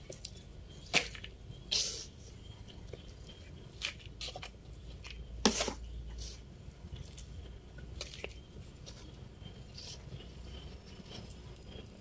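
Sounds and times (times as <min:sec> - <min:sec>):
rustles and scrapes of soil: 0:00.0 - 0:12.0.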